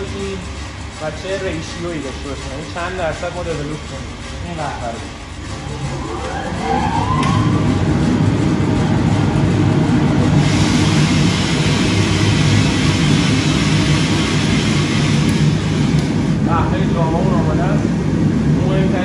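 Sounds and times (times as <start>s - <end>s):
roaster motor and blower hum: 0.0s - 19.0s.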